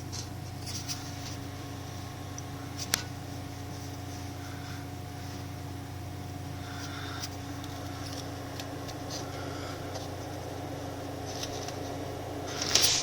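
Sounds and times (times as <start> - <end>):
furnace humming: 0.0 - 13.0.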